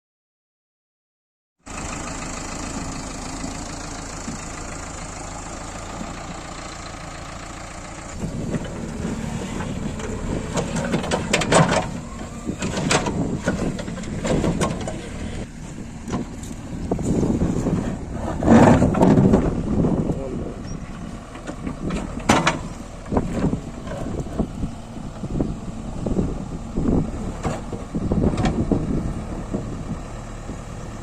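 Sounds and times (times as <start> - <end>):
diesel engine running: 1.6 - 31.0.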